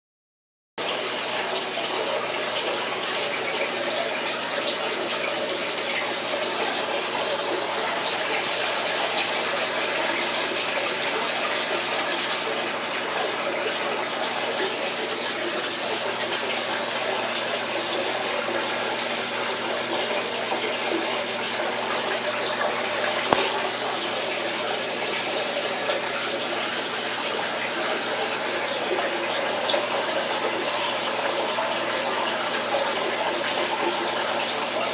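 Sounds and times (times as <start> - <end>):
aquarium water running: 0.8 - 34.9.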